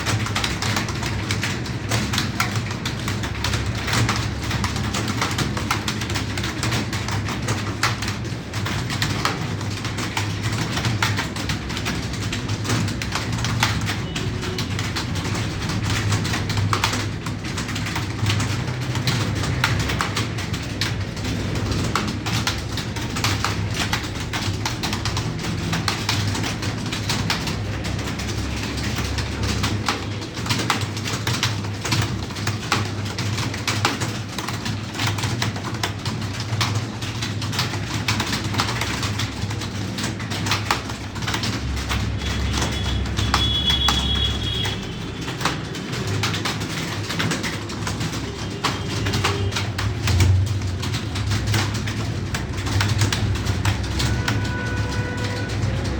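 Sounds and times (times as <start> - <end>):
keyboard typing: 0.0 - 55.9.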